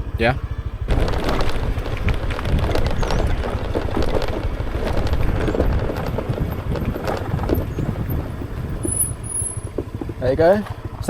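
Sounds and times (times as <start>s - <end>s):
wind rumbling on microphone: 0.0s - 11.0s
small knocks and rattles: 0.9s - 11.0s.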